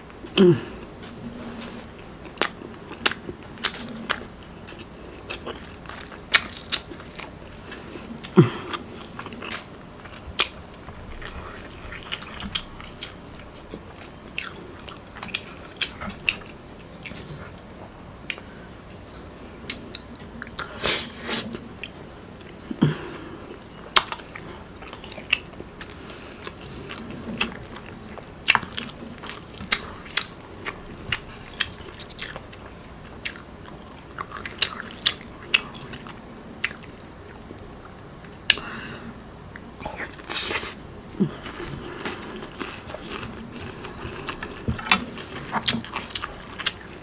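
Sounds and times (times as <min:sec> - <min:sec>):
chewing food: 0:01.0 - 0:47.0.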